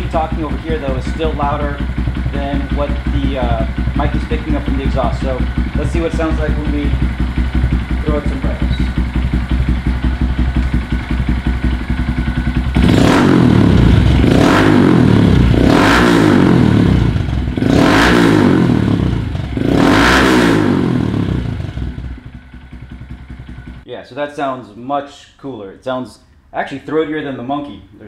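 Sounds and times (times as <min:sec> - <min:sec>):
motorcycle engine idling and revving: 0:00.0 - 0:23.9.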